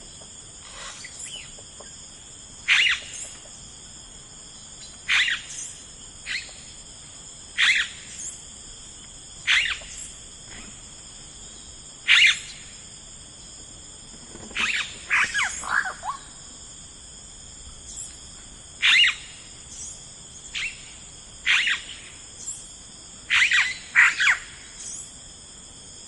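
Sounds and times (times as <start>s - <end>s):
high insect chorus: 0.0s - 26.0s.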